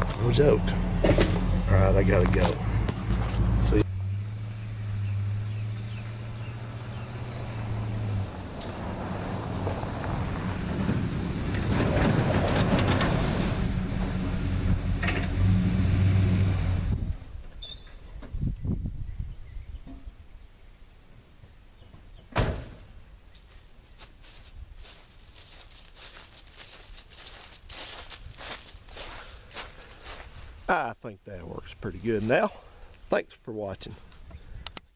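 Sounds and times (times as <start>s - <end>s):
road noise: 0.0s - 19.0s, 21.5s - 34.9s.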